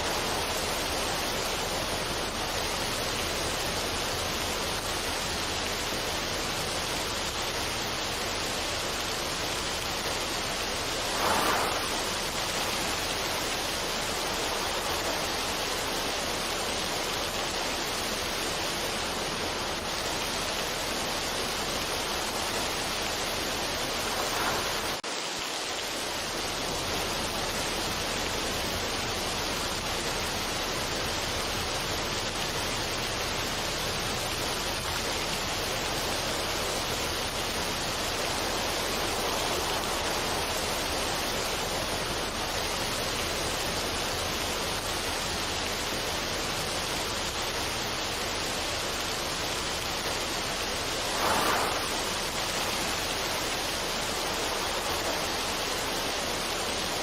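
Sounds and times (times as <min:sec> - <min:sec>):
steady rushing noise: 0:00.0 - 0:29.8, 0:32.7 - 0:57.0.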